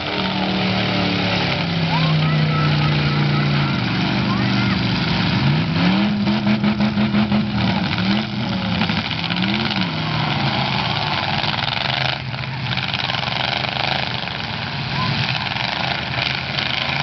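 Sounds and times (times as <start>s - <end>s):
car engines revving hard: 0.0s - 17.0s
wheels spinning in dirt: 0.0s - 17.0s.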